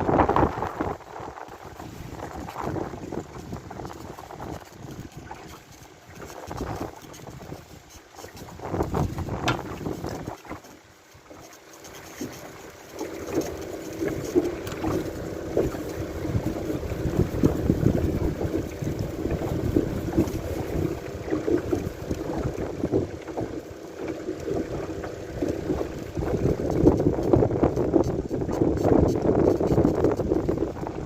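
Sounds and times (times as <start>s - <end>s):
steady motor hum: 0.0s - 31.0s
wind rumbling on microphone: 0.0s - 31.0s.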